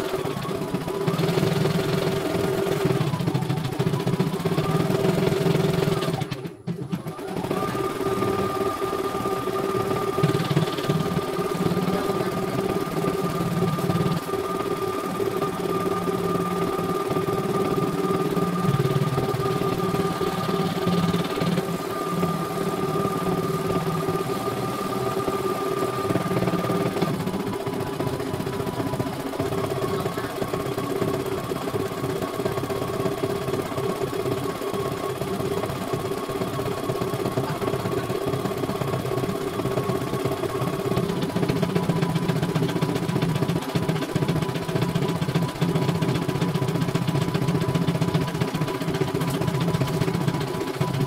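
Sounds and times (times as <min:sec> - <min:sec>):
embroidery machine stitching: 0:00.0 - 0:51.0.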